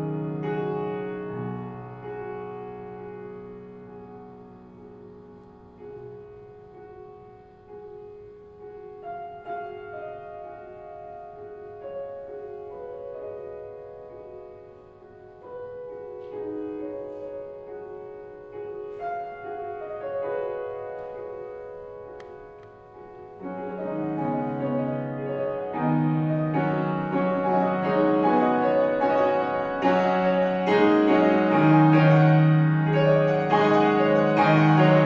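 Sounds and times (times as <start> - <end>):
grand piano playing: 0.0 - 35.0.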